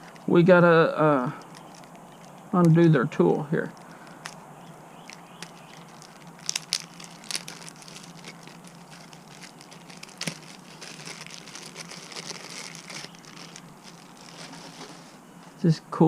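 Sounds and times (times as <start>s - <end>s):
plastic packaging crinkling: 1.2s - 2.7s, 3.6s - 15.2s.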